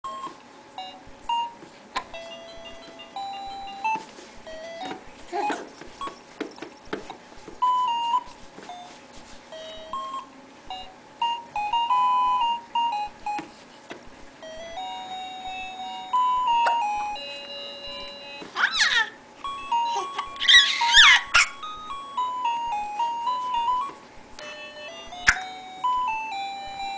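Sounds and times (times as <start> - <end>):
piano notes: 0.0 - 13.6, 14.3 - 18.6, 19.2 - 26.9.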